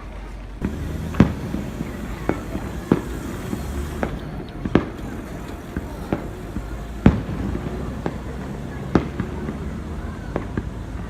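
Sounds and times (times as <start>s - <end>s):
outdoor background noise: 0.0s - 11.0s
fireworks bangs: 0.6s - 11.0s.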